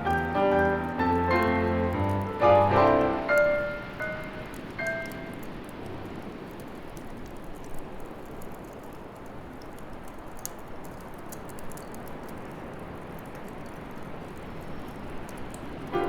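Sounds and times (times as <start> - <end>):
bonfire crackling and hissing: 0.0 - 16.0.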